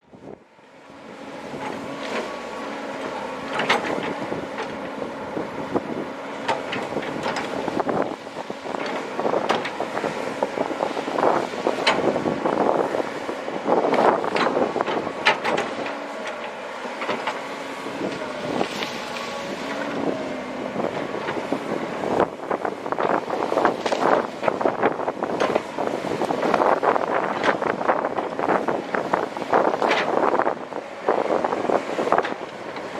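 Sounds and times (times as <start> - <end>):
excavator diesel engine running: 0.1 - 32.9.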